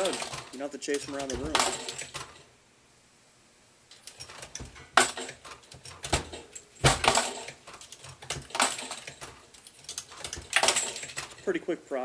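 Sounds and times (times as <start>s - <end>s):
cases rattling up a tube: 0.0s - 2.4s, 3.9s - 11.4s
brass cases clinking against metal: 0.0s - 2.5s, 3.9s - 11.5s
reloading press clacks: 0.0s - 2.5s, 3.9s - 11.5s.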